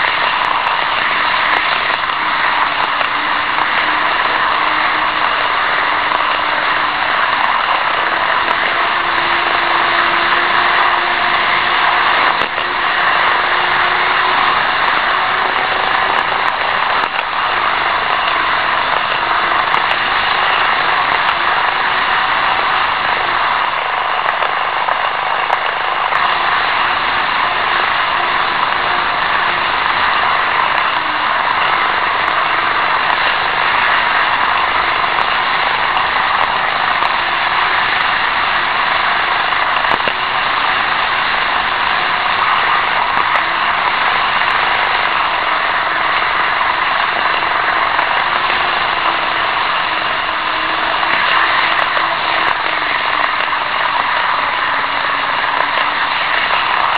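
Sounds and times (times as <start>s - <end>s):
model trains whirring on rails: 0.0s - 56.9s.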